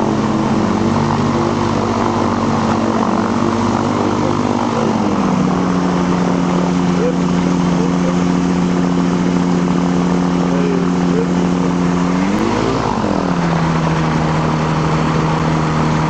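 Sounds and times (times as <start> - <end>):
microlight engine and propeller: 0.0 - 16.0.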